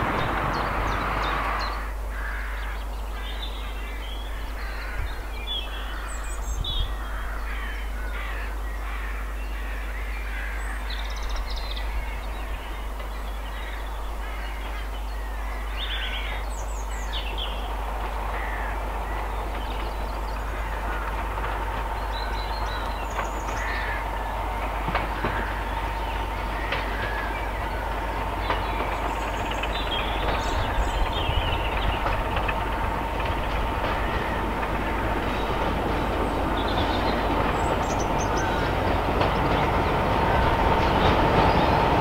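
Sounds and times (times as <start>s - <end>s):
birds calling: 0.0s - 42.0s
distant diesel locomotive: 0.0s - 42.0s.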